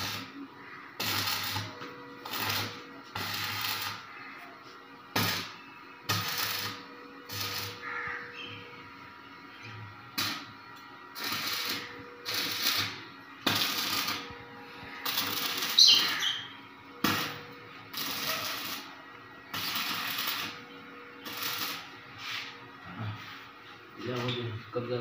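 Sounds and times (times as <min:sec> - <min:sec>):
welding arc crackling and sizzling: 0:00.0 - 0:04.4, 0:05.1 - 0:08.6, 0:10.0 - 0:22.6.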